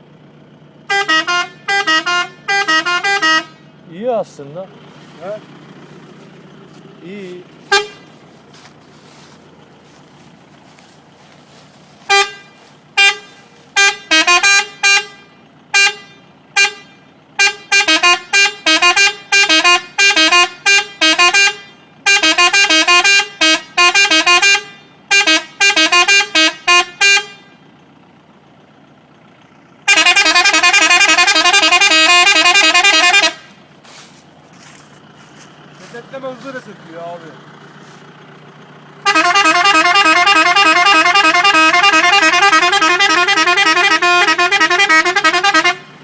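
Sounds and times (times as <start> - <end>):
electric musical car horn: 0.8 - 3.9, 4.8 - 27.8, 29.8 - 36.6, 39.0 - 46.0.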